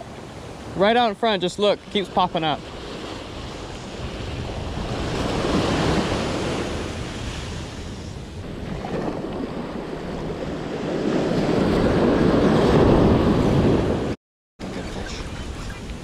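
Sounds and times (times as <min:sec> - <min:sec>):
small waves breaking on sand: 0:00.0 - 0:16.0
wind buffeting microphone: 0:02.7 - 0:16.0.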